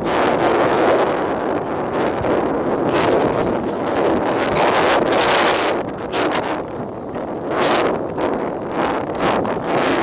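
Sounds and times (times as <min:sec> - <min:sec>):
passenger train running: 0:00.0 - 0:10.0
wind buffeting microphone: 0:00.0 - 0:10.0.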